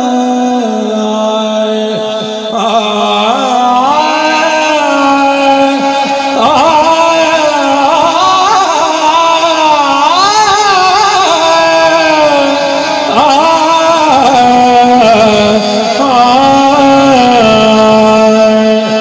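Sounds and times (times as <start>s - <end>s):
man singing through pa system: 0.0s - 19.0s.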